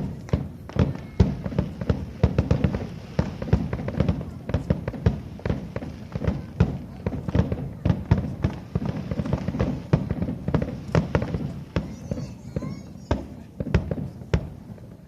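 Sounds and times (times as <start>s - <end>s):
fireworks shells bursting: 0.0s - 14.6s.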